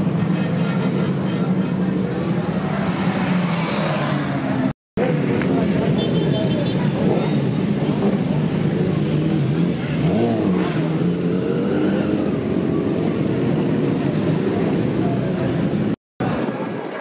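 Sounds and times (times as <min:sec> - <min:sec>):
motorcycles passing: 0:00.0 - 0:16.9
motorcycle engine revving: 0:02.2 - 0:15.9.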